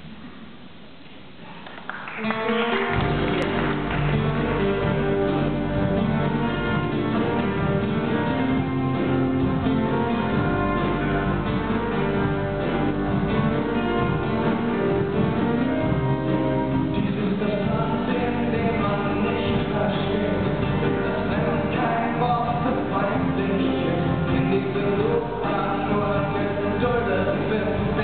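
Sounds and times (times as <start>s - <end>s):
acoustic band with cello: 2.3s - 28.0s
low bass notes: 2.9s - 28.0s.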